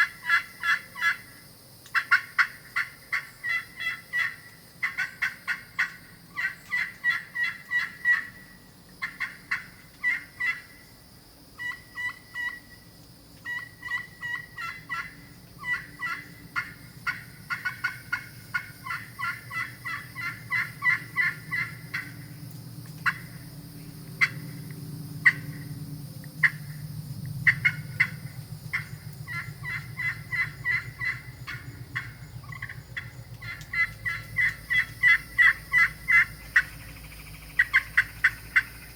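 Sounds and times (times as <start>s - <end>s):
turkey call clucks: 0.0s - 1.3s, 1.9s - 8.4s, 9.0s - 10.7s, 11.6s - 12.6s, 13.4s - 22.1s, 23.0s - 23.4s, 24.2s - 24.4s, 25.2s - 25.6s, 26.4s - 26.7s, 27.4s - 38.9s
turkey call yelps: 0.0s - 1.3s, 1.9s - 8.4s, 9.0s - 10.7s, 11.6s - 12.6s, 13.4s - 22.2s, 23.0s - 23.4s, 25.2s - 25.6s, 26.4s - 26.7s, 27.4s - 38.9s.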